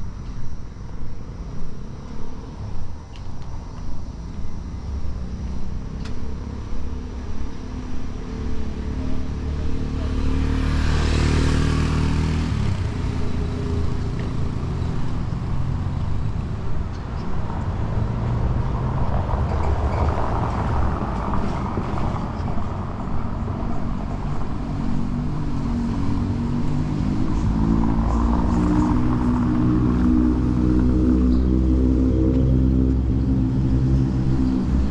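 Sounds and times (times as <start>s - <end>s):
vehicle engines running: 0.0s - 34.9s
vehicle going by: 3.8s - 34.9s
car passing close: 4.3s - 34.9s.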